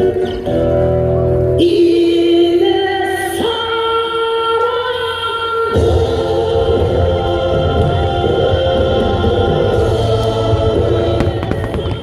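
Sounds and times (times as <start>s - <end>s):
choir-like singing over chords: 1.6s - 12.0s.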